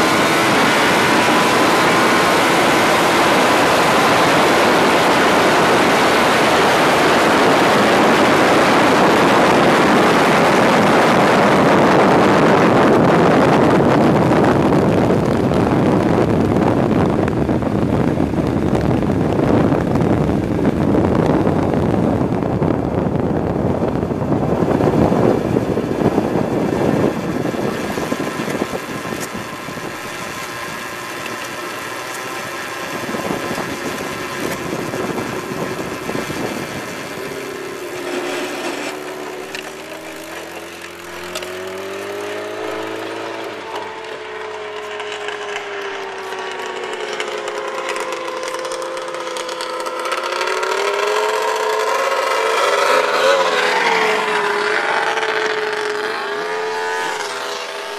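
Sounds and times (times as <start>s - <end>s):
motorcycle engine at low revs: 0.0s - 57.9s
wind rush: 0.0s - 57.9s.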